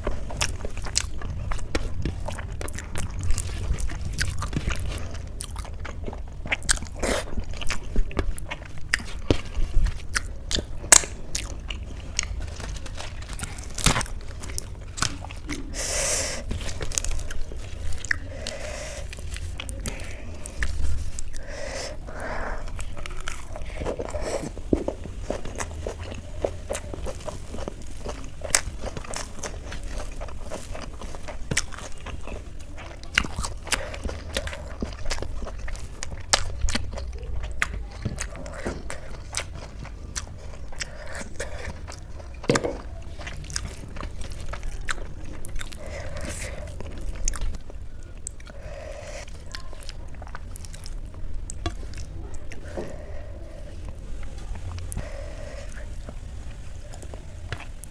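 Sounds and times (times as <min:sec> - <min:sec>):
person chewing and biting food: 0:00.0 - 0:57.9.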